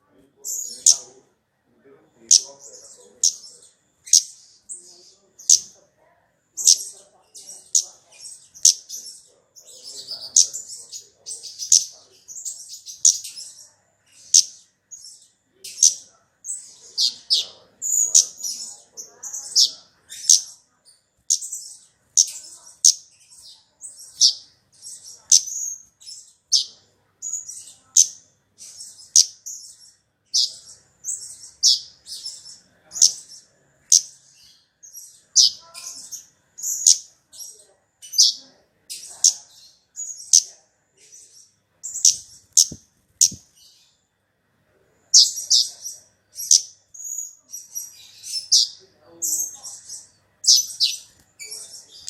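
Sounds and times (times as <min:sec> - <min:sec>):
songbird chirping: 0:00.0 - 0:52.0.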